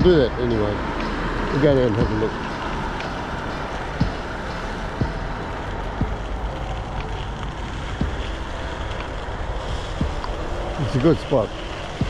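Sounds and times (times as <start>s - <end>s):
bicycle riding rush: 0.0s - 12.0s.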